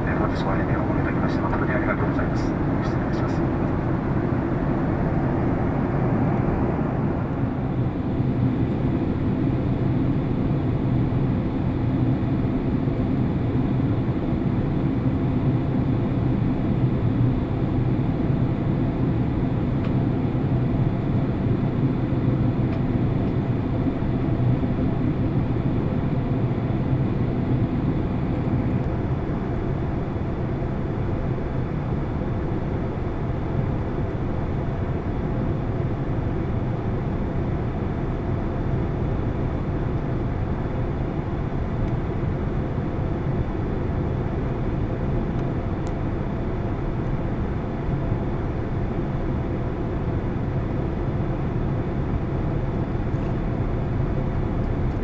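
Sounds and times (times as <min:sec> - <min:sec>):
airliner engine drone: 0:00.0 - 0:55.0.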